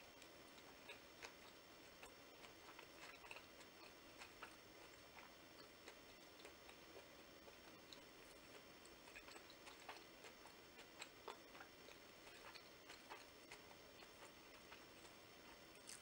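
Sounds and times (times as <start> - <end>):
faint chewing clicks and crunches: 0.0 - 16.0.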